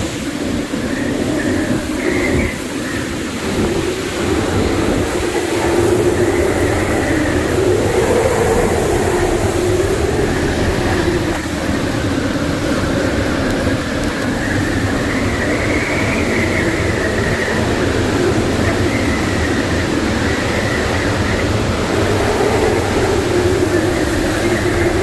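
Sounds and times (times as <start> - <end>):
hurricane wind whistling: 0.0 - 25.0.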